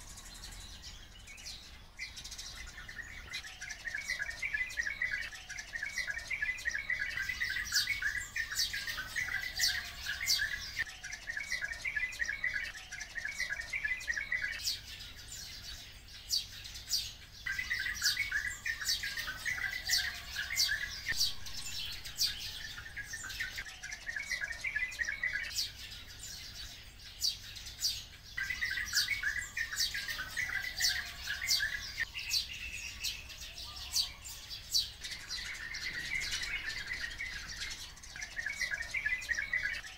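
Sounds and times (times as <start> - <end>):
birds chattering fast: 0.0 - 39.9
flock of birds chirping: 0.0 - 39.9.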